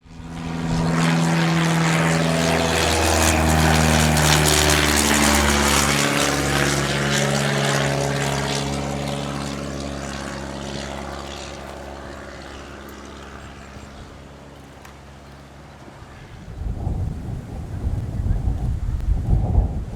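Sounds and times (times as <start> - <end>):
light aircraft flying past: 0.0 - 19.9.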